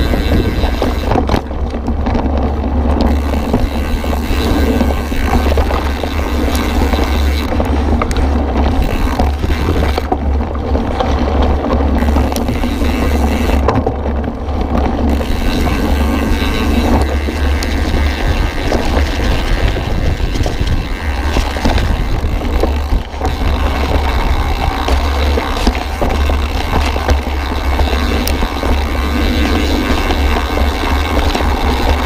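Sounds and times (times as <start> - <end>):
bike rattles and knocks: 0.0 - 32.0
tyres on dirt trail: 0.0 - 32.0
wind rumble on microphone: 0.0 - 32.0.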